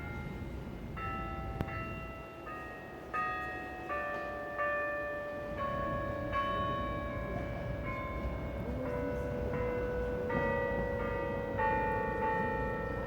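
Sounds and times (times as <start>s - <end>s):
carillon bells playing slow tune: 0.0s - 13.0s.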